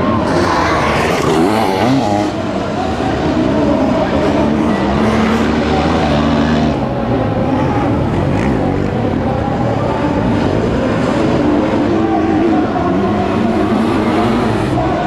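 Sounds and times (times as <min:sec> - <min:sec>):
racing engines revving hard: 0:00.0 - 0:15.0.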